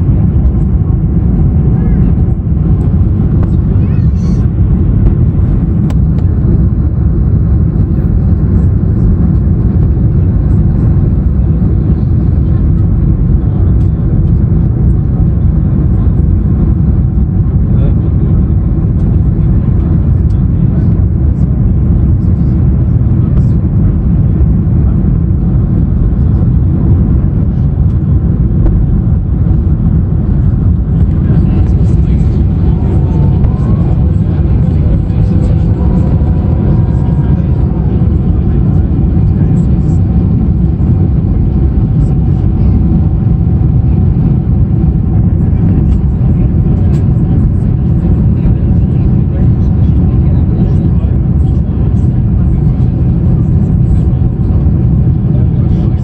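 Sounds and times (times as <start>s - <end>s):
jet engine roar in cabin: 0.0s - 56.0s.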